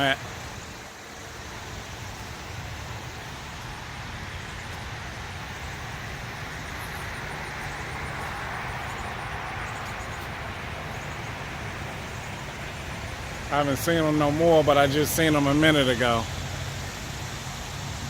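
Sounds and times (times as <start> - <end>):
road traffic hiss and rumble: 0.0 - 18.0.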